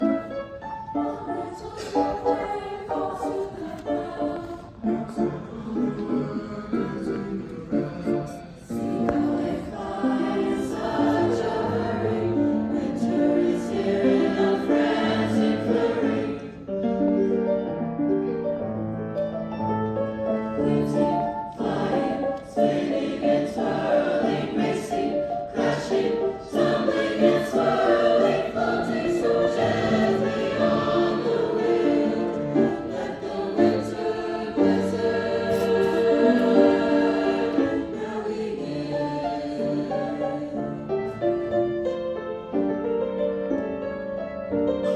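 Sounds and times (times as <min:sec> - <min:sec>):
choir singing: 0:00.0 - 0:17.3, 0:20.2 - 0:42.0.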